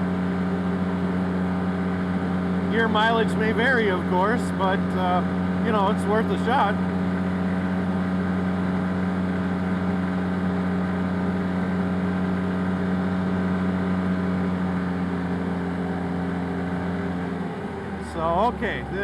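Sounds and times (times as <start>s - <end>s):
utility vehicle engine droning: 0.0s - 19.0s.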